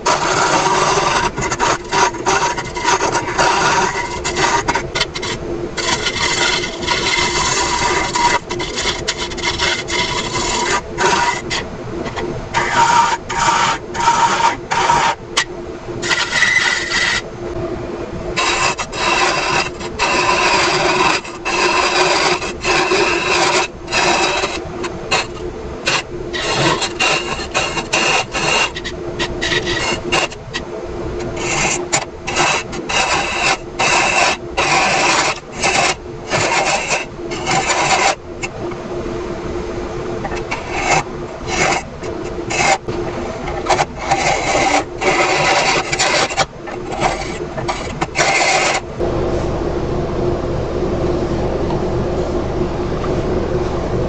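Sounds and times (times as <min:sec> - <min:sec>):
tool scraping spinning wood: 0:00.0 - 0:17.3, 0:18.3 - 0:38.7, 0:40.2 - 0:49.0
lathe humming: 0:00.0 - 0:54.0.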